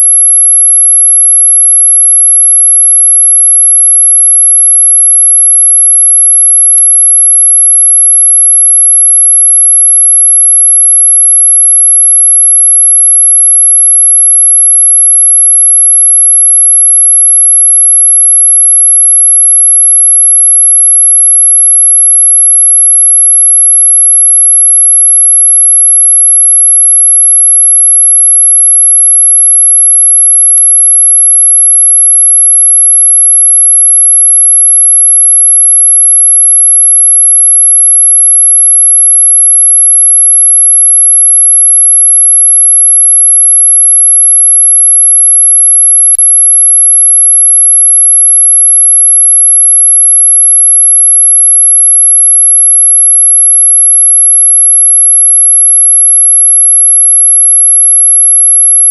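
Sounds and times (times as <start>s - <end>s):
high-pitched sine tone: 0.0s - 58.9s.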